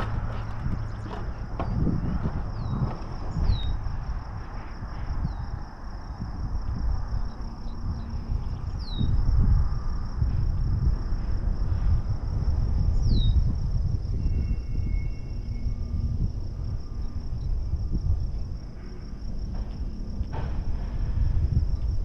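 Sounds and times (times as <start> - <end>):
crickets chirring: 0.0 - 22.0
wind rumble on microphone: 0.0 - 22.0.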